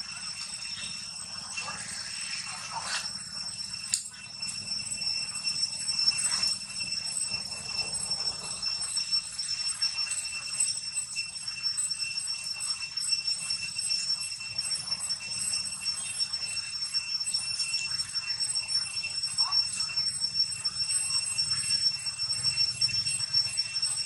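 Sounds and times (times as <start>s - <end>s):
high-pitched pulsing drone: 0.0s - 24.0s.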